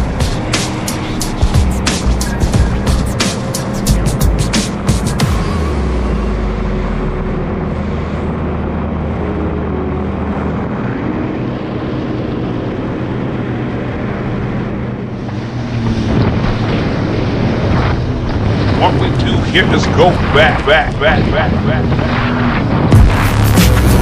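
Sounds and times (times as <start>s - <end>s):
jet ski engine running: 0.0s - 24.0s
wind rushing over microphone: 0.0s - 24.0s.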